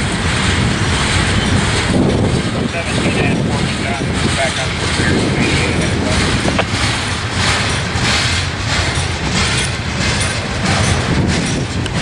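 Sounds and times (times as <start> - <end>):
freight train wheels rumbling: 0.0 - 12.0
metal clanks: 0.0 - 12.0.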